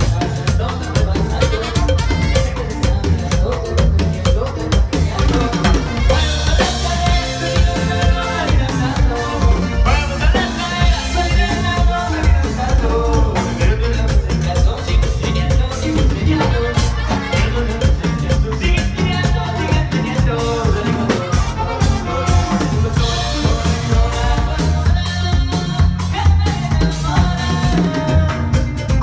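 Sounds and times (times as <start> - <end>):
drums: 0.0 - 29.0
live band music: 0.0 - 29.0.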